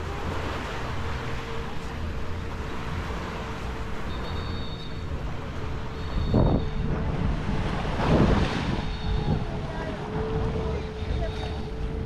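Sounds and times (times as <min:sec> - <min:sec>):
motor hum: 0:00.0 - 0:12.0
wind and surf: 0:00.0 - 0:12.0.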